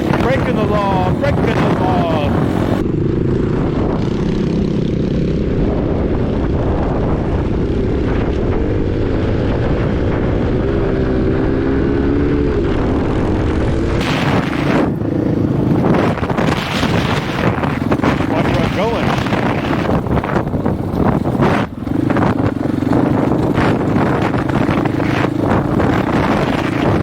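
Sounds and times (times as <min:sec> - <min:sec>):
dirt bike engine running: 0:00.0 - 0:27.0
wind buffeting microphone: 0:00.0 - 0:27.0.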